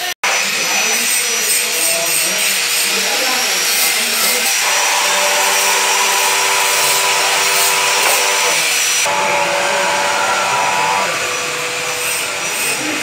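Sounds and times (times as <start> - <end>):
angle grinder on metal pipe: 0.0 - 13.0.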